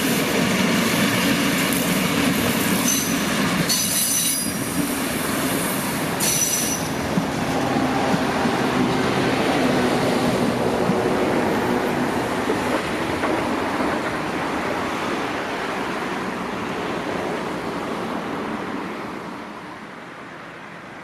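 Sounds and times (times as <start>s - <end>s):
train wheels rolling on tracks: 0.0s - 20.6s.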